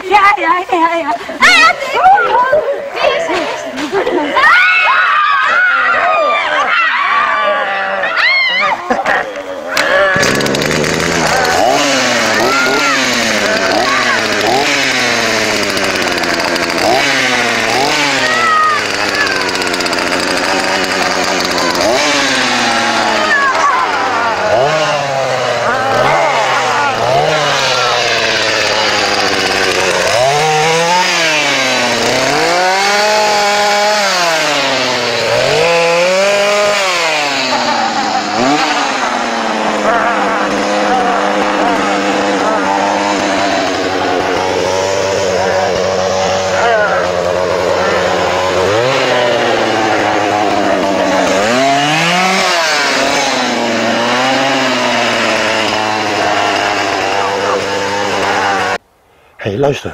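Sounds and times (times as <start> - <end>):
chainsaw engine revving and idling: 8.8 - 58.8.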